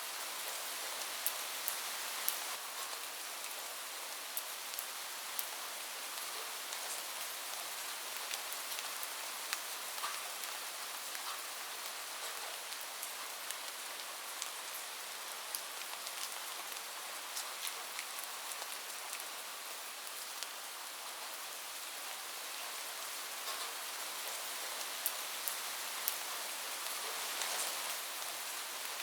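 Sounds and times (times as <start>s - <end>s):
rain on a roof: 0.0s - 29.0s.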